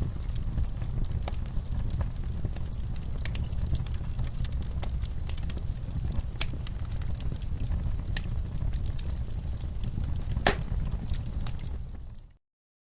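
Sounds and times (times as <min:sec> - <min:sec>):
fire crackles and pops: 0:00.0 - 0:12.4
wood fire burning: 0:00.0 - 0:12.4.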